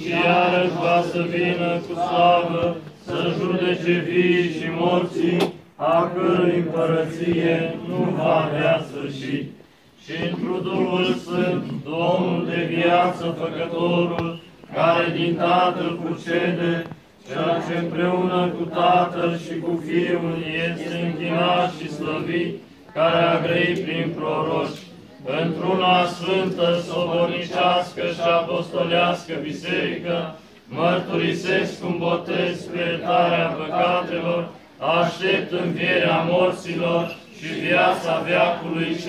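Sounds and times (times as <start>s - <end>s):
voices singing liturgical chant: 0.0s - 39.0s.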